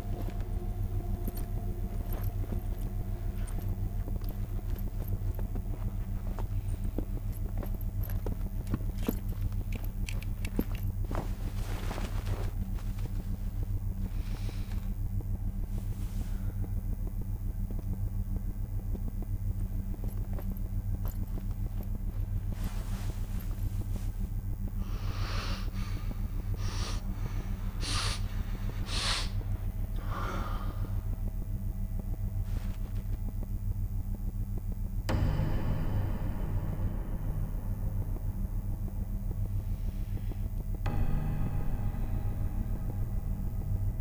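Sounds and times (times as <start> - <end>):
low rumbling drone: 0.0 - 44.0.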